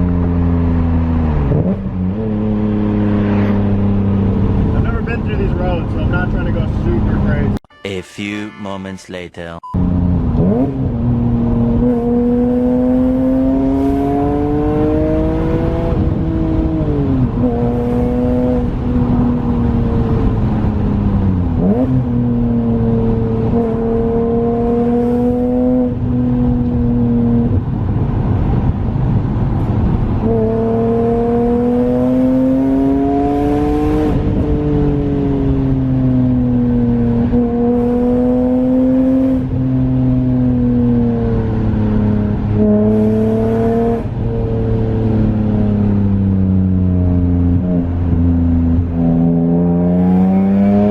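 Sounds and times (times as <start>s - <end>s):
car engine revving under load: 9.8s - 50.9s.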